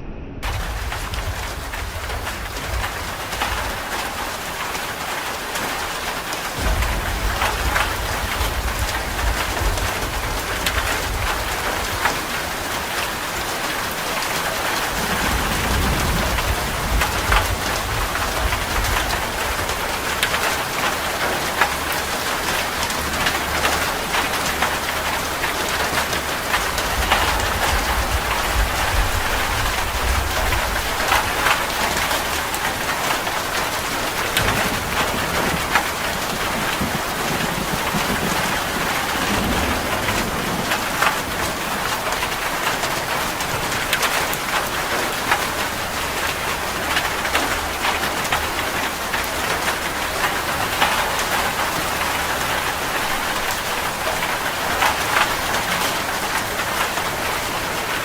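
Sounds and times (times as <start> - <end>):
low rolling thunder: 0.0 - 57.3
heavy rain on a metal roof: 0.4 - 58.0.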